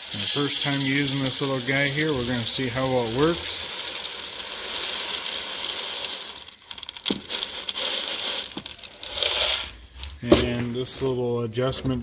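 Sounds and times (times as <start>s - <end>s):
corn kernels pouring into hopper: 0.0s - 9.8s.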